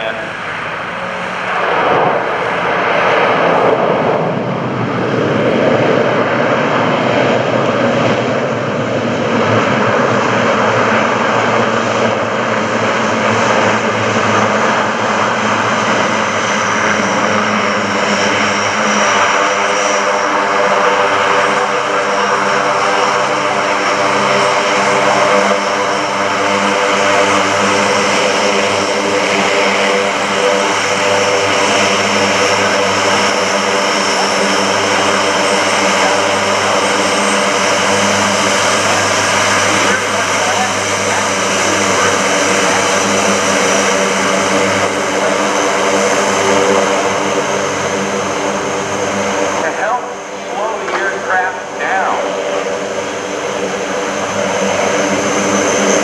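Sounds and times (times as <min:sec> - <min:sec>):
turboprop engines drone and whine: 0:00.0 - 0:56.0.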